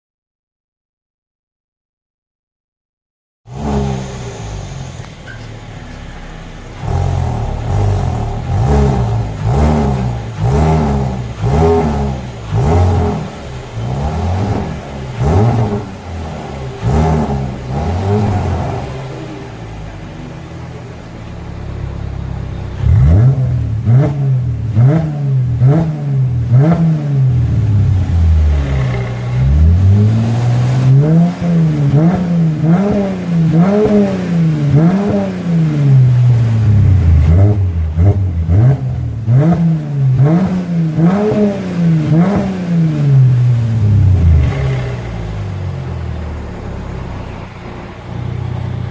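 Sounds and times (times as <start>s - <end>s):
car engine revving: 3.4s - 48.9s
car engine idling: 3.5s - 48.9s.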